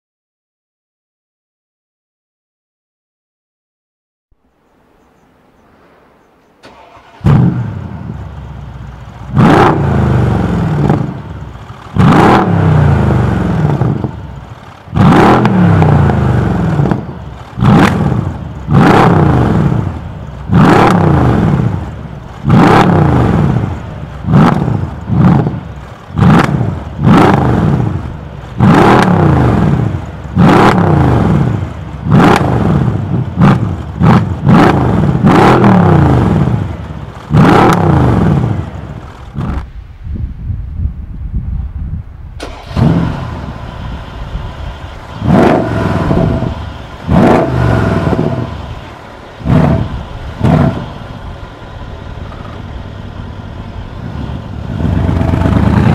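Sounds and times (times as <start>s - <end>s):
car engine starting and idling: 5.8s - 40.0s, 41.0s - 55.9s
engine revving blips: 6.6s - 39.7s, 42.4s - 55.9s.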